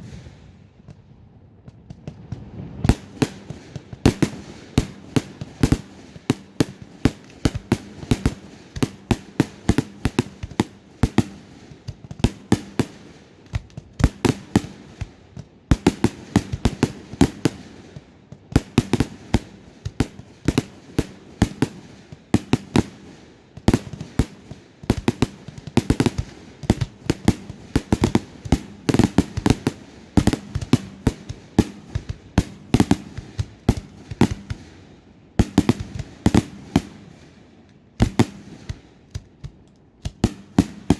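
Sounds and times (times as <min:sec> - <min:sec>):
fireworks bangs and cracks: 0:00.0 - 0:40.9.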